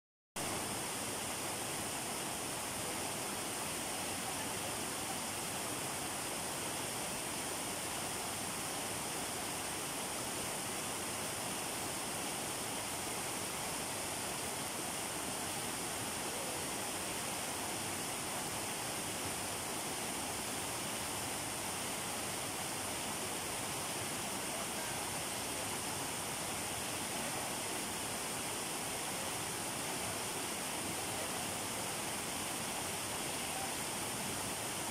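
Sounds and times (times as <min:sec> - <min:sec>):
waterfall and stream rushing over rocks: 0:00.4 - 0:34.9.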